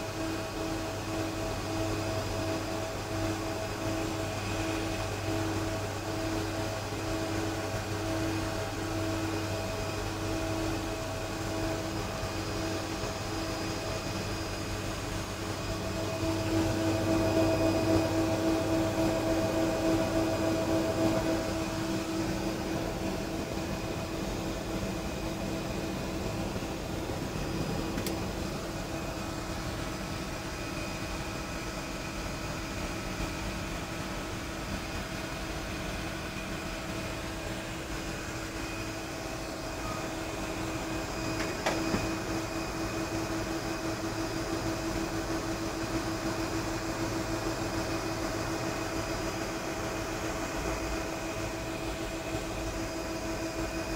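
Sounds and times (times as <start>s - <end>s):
cockpit hum with whining tones: 0.0s - 53.9s.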